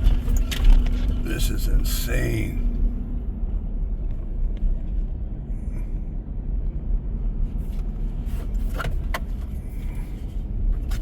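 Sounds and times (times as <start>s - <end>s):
car driving low rumble: 0.0s - 11.0s.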